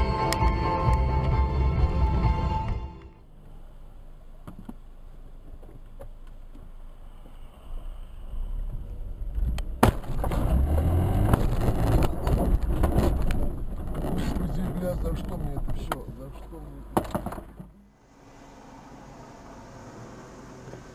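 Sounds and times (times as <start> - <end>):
car road rumble: 0.0 - 20.9.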